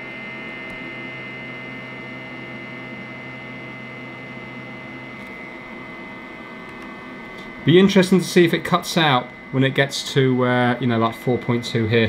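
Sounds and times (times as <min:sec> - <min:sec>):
battery charger humming: 0:00.0 - 0:12.0
thin high whine: 0:00.0 - 0:12.0.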